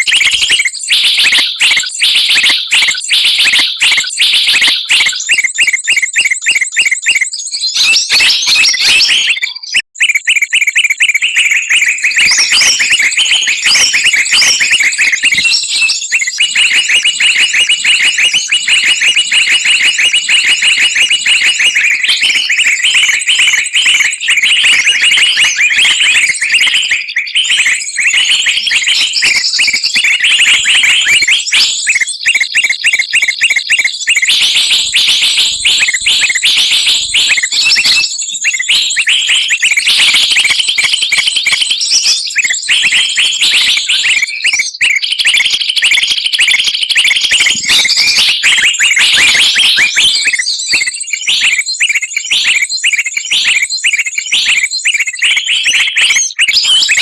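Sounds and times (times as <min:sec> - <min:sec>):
songbirds chattering and chirping: 0:00.0 - 0:57.0.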